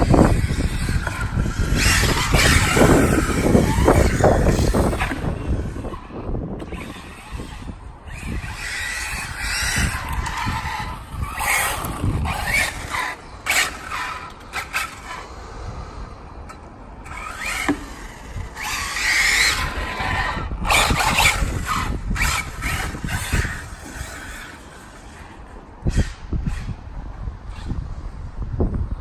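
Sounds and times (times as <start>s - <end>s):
electric motor whining: 0.0s - 15.4s, 17.0s - 26.7s
tyre noise on asphalt: 0.0s - 28.4s.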